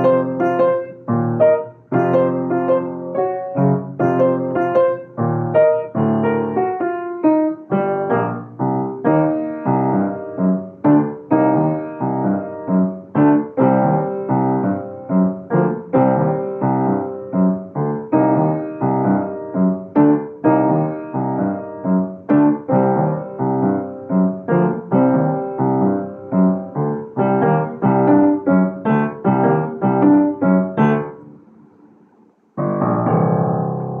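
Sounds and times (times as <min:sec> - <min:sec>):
piano playing notes and chords: 0:00.0 - 0:31.8, 0:32.6 - 0:34.0.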